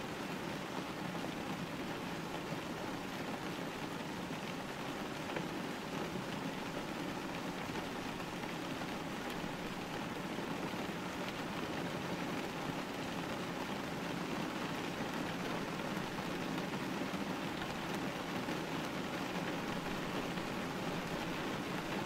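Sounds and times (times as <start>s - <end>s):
rain on window glass: 0.0s - 22.0s.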